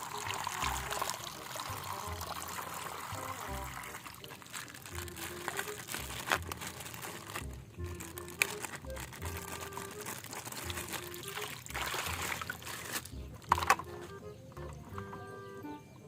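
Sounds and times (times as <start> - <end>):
water pouring and splashing: 0.0 - 13.8
light background music: 0.0 - 16.0.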